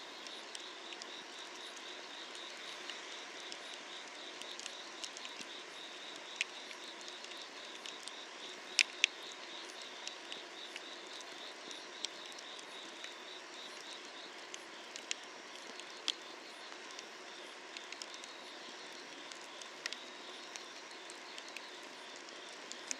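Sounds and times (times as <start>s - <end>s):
insects chirping trill: 0.1s - 22.9s.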